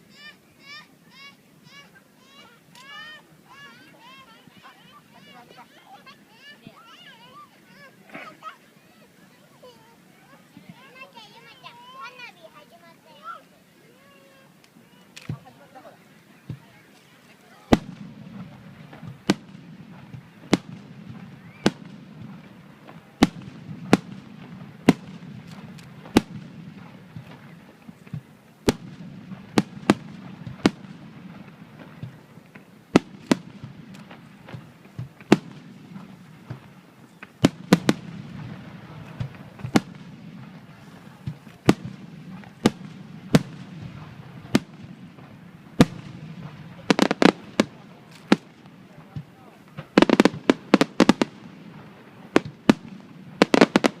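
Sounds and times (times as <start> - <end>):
fireworks bangs: 0.0 - 54.0
fireworks crackling: 0.0 - 54.0.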